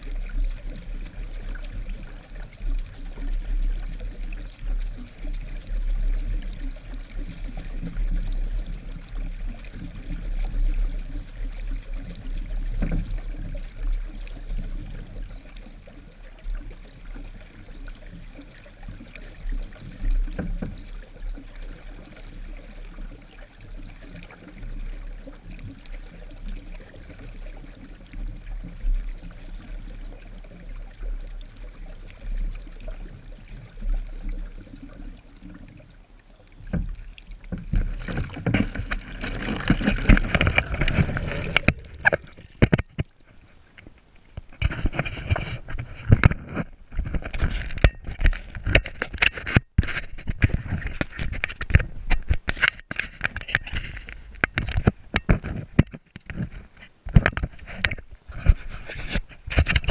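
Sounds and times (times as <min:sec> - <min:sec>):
paddlewheel churning water: 0:00.0 - 0:59.9.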